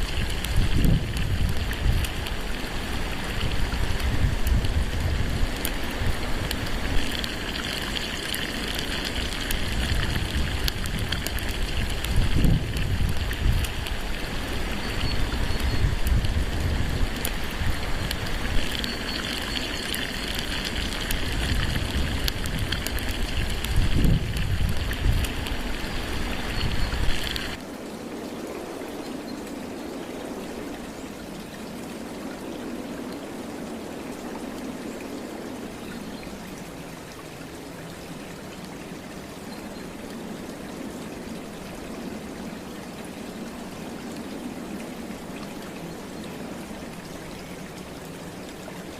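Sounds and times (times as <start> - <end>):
rumbling wind-like noise: 0.0 - 48.9
trickling running water: 0.0 - 48.9.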